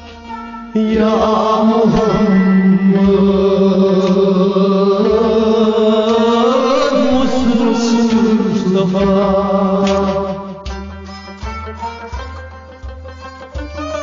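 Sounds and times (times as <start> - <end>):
steady held drone: 0.0 - 12.8
person singing devotional song: 0.3 - 11.7.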